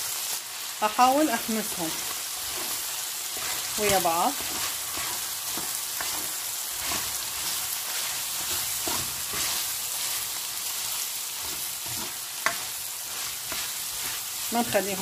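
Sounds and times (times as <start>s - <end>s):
meat sizzling in a pan: 0.0s - 15.0s
food scraped in a pan: 1.8s - 15.0s.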